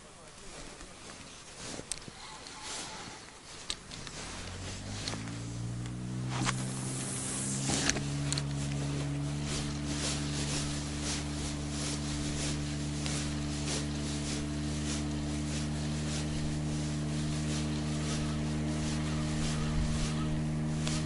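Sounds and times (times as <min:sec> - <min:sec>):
outboard motor running: 0:03.5 - 0:21.0.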